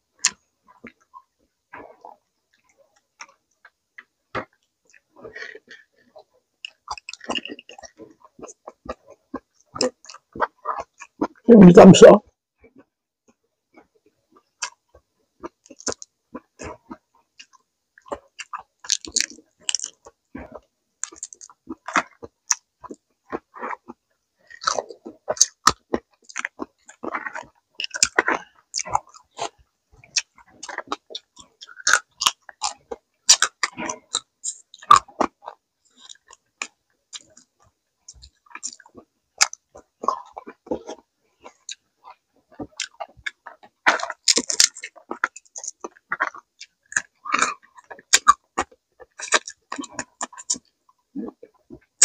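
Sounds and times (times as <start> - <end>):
chewing with crunches: 0.1 - 11.5, 12.6 - 52.0.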